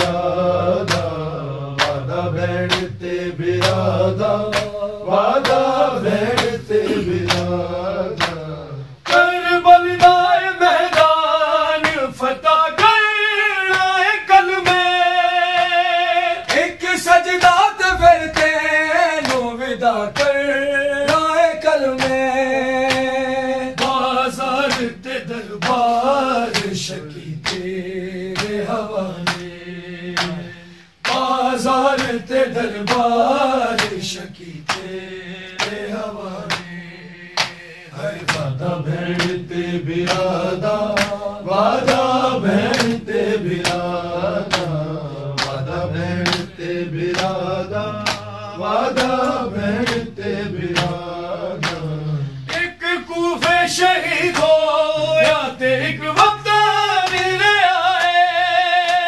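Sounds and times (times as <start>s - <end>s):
man singing a lament: 0.0s - 59.0s
sharp rhythmic beats: 0.0s - 59.0s.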